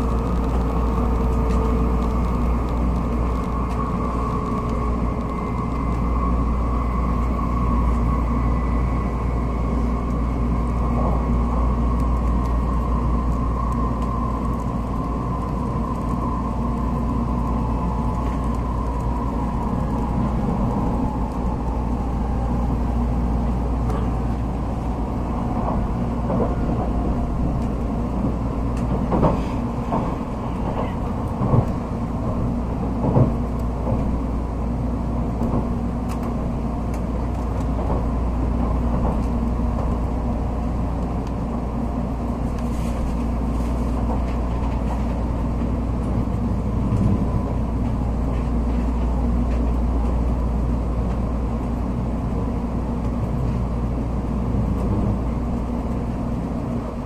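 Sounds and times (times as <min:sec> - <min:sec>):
train cabin rumble: 0:00.0 - 0:57.0.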